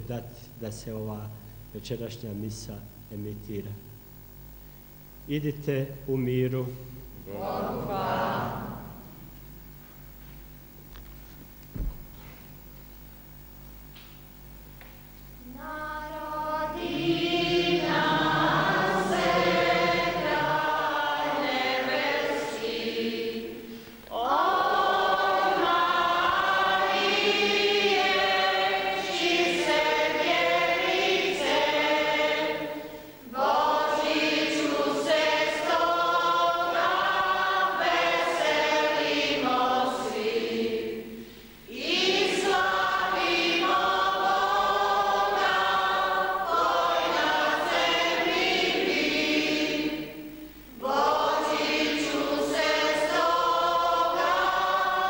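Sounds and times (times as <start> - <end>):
congregation singing a hymn: 5.3 - 9.8, 15.4 - 55.0.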